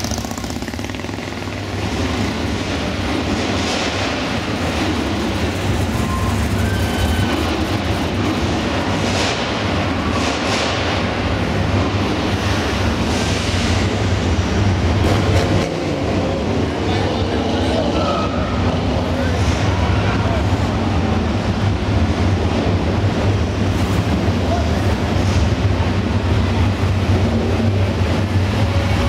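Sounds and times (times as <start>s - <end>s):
cars driving past rumbling: 0.0s - 29.0s.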